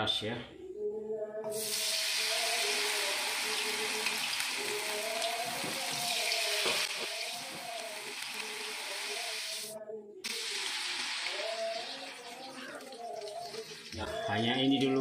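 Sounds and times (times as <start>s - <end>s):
food sizzling in hot oil: 1.5s - 14.3s.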